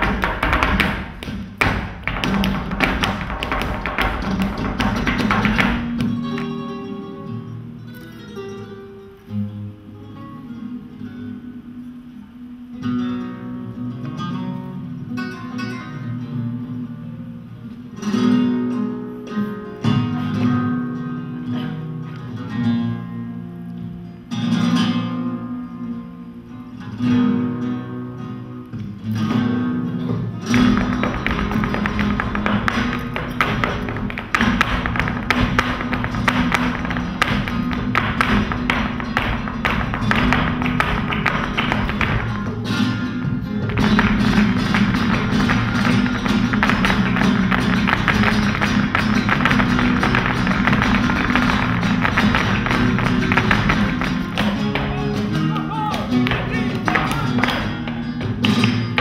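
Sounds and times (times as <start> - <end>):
flamenco acoustic guitars: 0.0 - 59.0.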